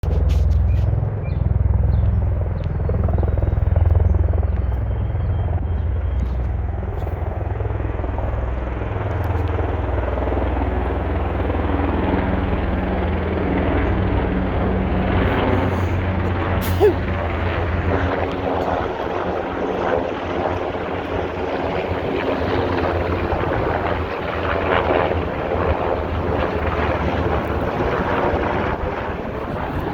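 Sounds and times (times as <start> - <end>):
rushing engine and rotor noise: 0.0 - 29.9.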